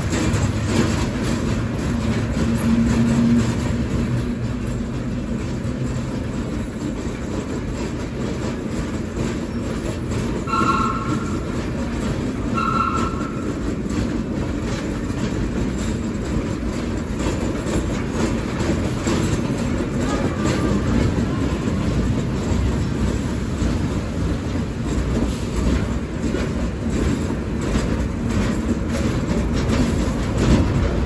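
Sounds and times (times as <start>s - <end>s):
subway train wheels rumbling: 0.0s - 31.0s.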